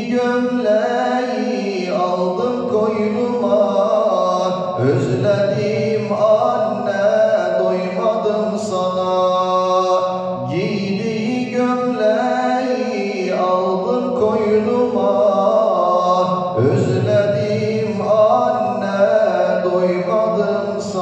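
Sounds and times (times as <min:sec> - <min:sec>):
man singing a hymn into microphone: 0:00.0 - 0:21.0.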